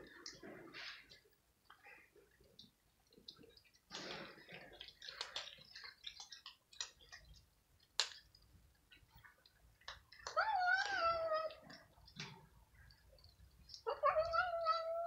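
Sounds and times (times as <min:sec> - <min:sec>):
cats crunching dry kibble: 0:02.0 - 0:15.0.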